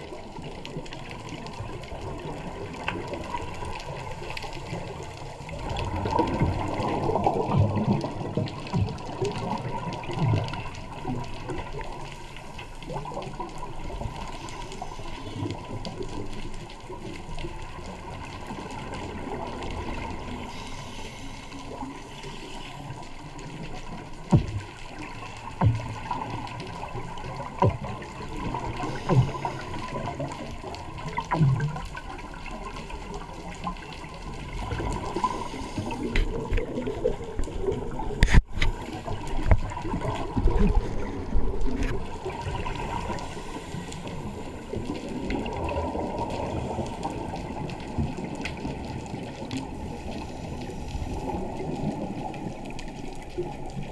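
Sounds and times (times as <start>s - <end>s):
underwater bubbling and gurgling: 0.0s - 53.9s.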